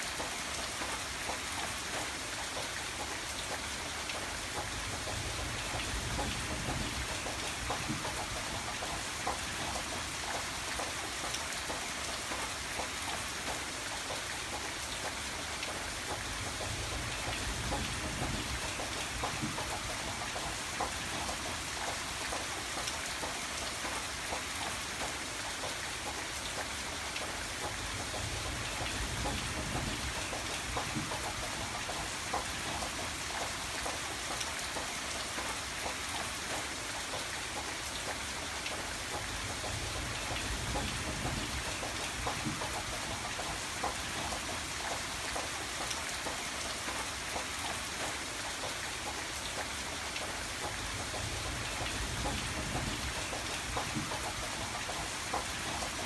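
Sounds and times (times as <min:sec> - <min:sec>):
rain drops ticking on a surface: 0:00.0 - 0:56.0.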